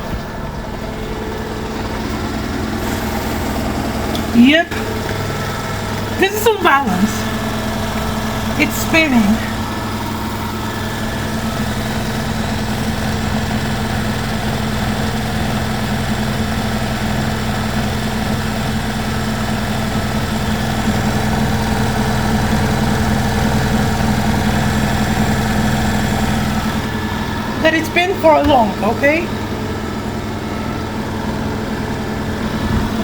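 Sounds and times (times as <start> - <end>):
washing machine drum spinning: 0.0 - 33.0.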